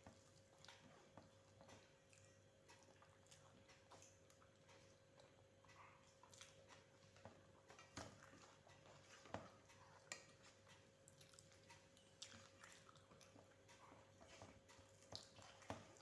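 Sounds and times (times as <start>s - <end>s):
chewing and mouth smacks: 0.0s - 16.0s
faint steady hum: 0.0s - 16.0s.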